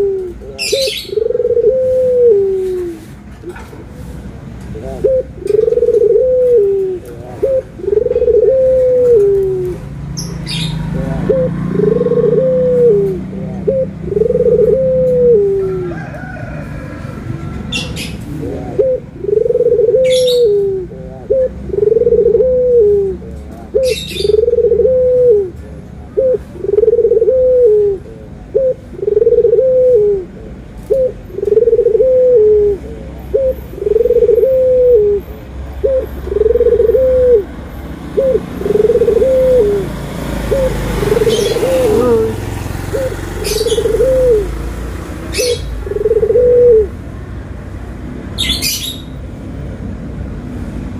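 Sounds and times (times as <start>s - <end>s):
dove cooing: 0.0s - 3.7s, 4.8s - 9.9s, 10.5s - 17.1s, 17.7s - 44.6s, 45.2s - 47.0s.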